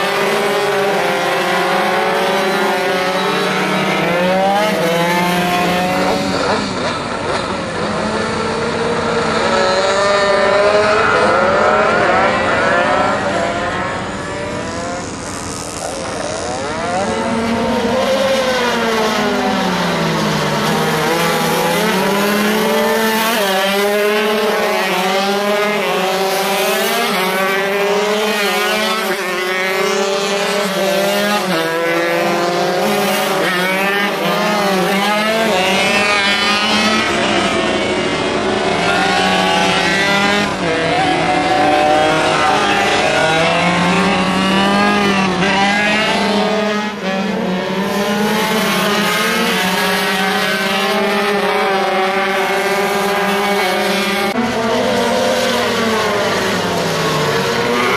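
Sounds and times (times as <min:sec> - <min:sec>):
minibike engines racing at high revs: 0:00.0 - 0:57.9.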